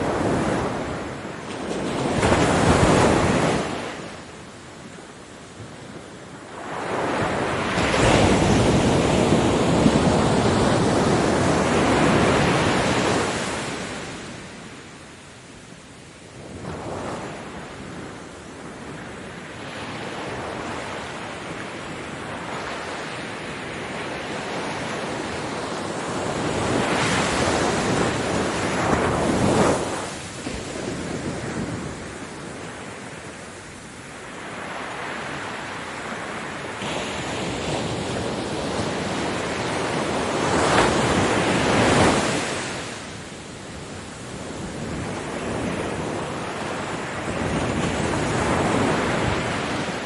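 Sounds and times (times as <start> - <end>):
ocean waves breaking on beach: 0.0 - 50.0.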